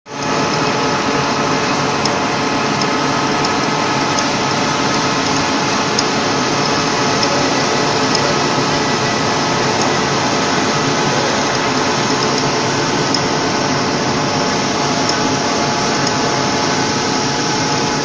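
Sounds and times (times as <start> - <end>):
lathe drone with gear whine: 0.1 - 18.0.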